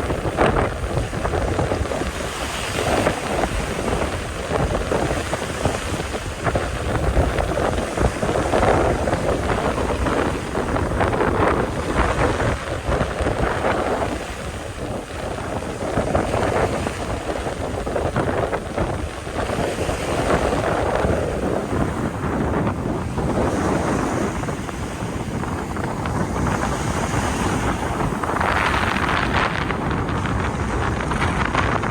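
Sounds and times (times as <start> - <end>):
sea waves washing: 0.0 - 31.9
wind buffeting microphone: 0.0 - 31.9.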